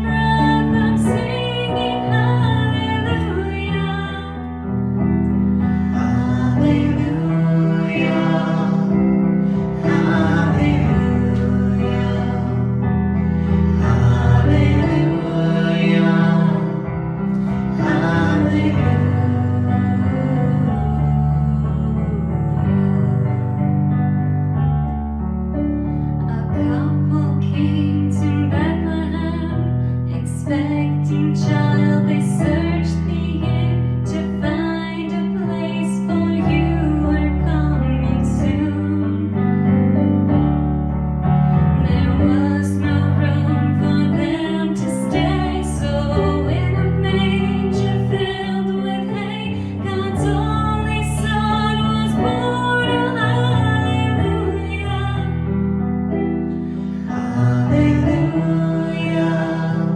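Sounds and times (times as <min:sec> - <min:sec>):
instrumental music: 0:00.0 - 0:59.9.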